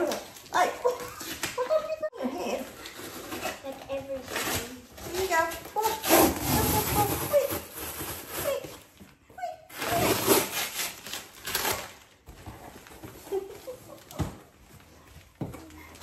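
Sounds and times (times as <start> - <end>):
cardboard and packing tape rustling: 0.0 - 16.0.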